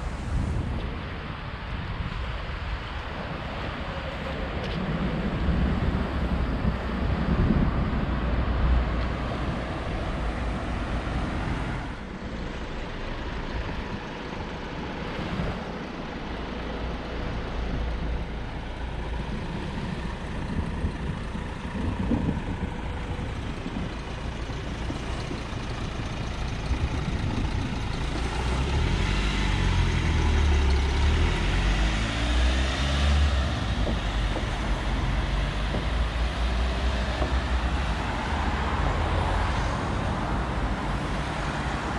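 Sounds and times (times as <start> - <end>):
cars driving by: 0.0 - 41.9
van engine rumble passing: 0.0 - 41.9.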